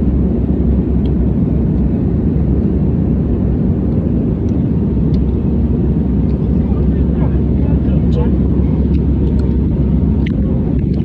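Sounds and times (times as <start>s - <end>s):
airliner engine drone in cabin: 0.0s - 11.0s.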